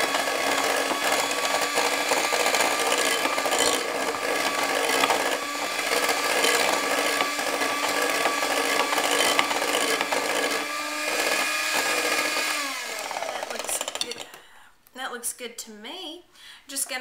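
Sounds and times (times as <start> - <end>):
electric hand mixer whining: 0.0 - 14.4.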